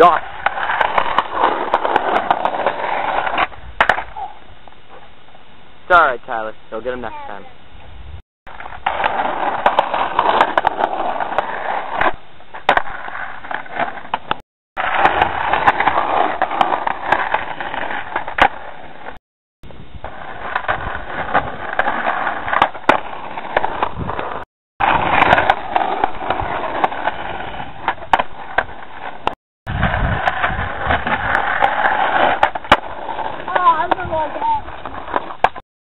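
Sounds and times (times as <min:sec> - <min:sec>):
skateboard wheels rolling on concrete: 0:00.0 - 0:35.6.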